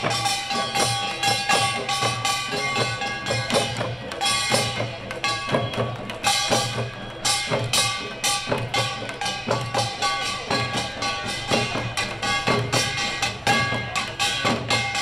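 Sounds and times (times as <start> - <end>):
drums beaten with sticks: 0.0 - 15.0
ringing small brass gongs: 0.0 - 15.0.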